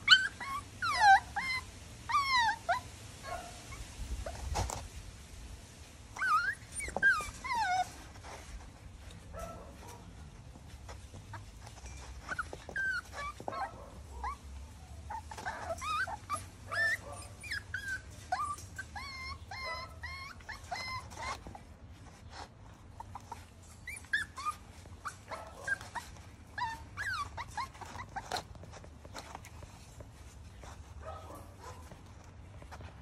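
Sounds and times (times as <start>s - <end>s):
puppies whimpering and whining: 0.0s - 2.9s, 6.1s - 8.8s, 10.9s - 32.9s.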